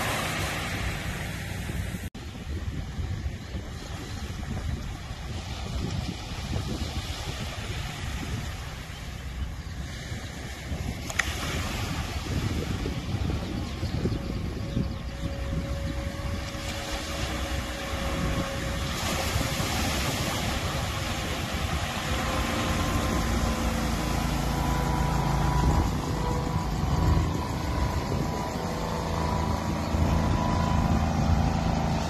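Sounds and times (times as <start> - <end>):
boat engine running: 0.0 - 32.0
surf washing: 0.0 - 32.0.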